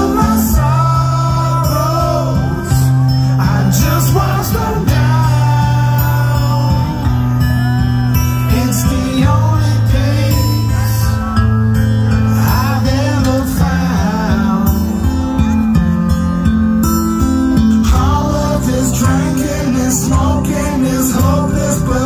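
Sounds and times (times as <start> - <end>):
man singing into microphone: 0.0 - 11.4, 12.2 - 15.7, 17.8 - 22.0
guitar: 0.0 - 22.0
heavy bass line: 0.0 - 22.0.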